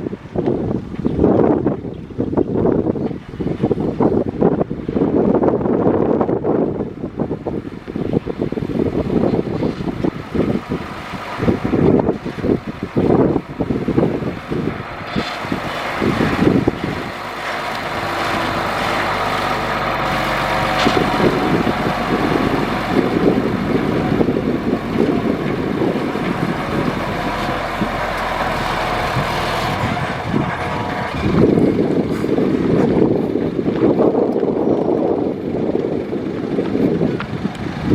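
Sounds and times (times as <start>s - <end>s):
diesel engine drone: 6.8s - 37.9s.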